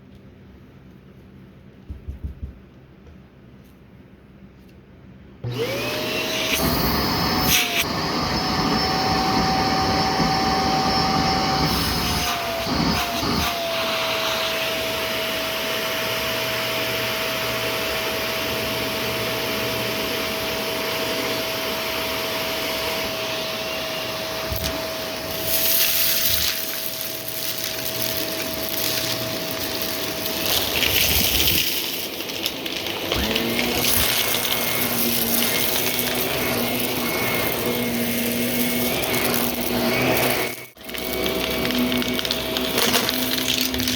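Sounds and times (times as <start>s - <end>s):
vacuum cleaner motor whine: 5.4s - 43.9s.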